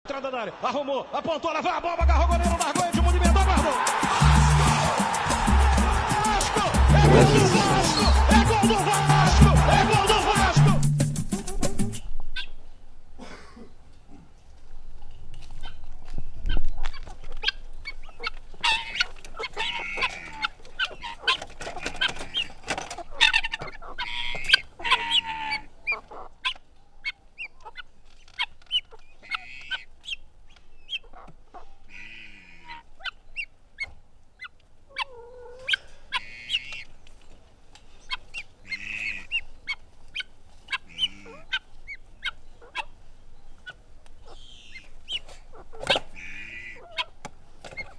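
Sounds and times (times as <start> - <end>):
hens cackling: 2.4 - 47.9
hens clucking and squawking: 2.5 - 47.9.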